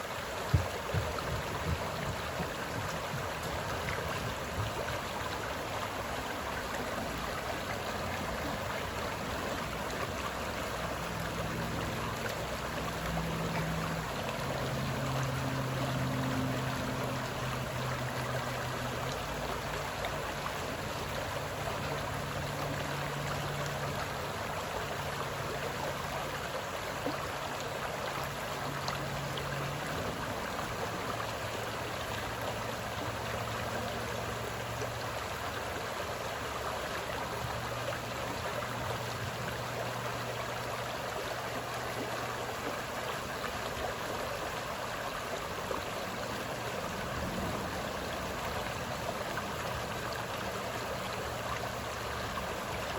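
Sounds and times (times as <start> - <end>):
low steady hum: 0.0 - 52.9
water rushing and trickling: 0.0 - 52.9.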